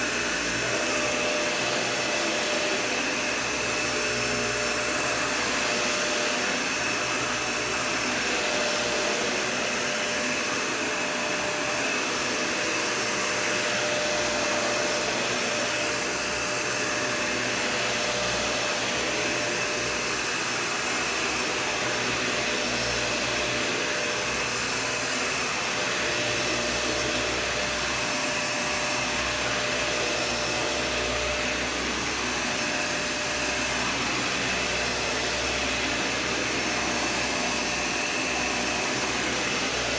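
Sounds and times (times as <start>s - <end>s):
upright vacuum whining: 0.0s - 39.9s.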